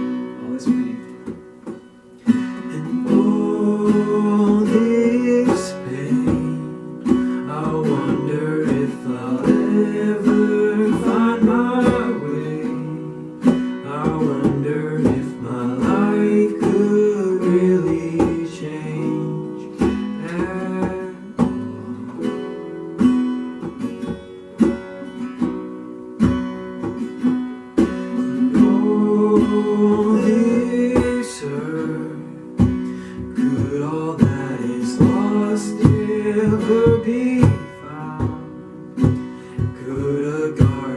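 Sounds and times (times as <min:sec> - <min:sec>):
acoustic guitar strumming: 0:00.0 - 0:40.9
person singing: 0:02.2 - 0:22.6, 0:28.2 - 0:40.9.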